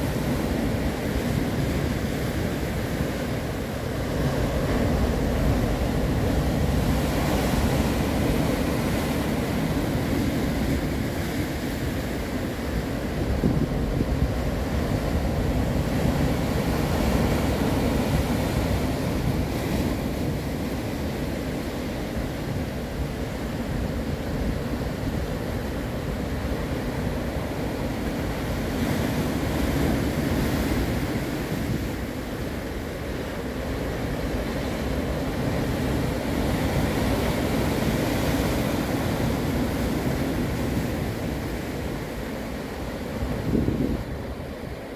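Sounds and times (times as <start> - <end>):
sea surf breaking over rocks: 0.0 - 44.9.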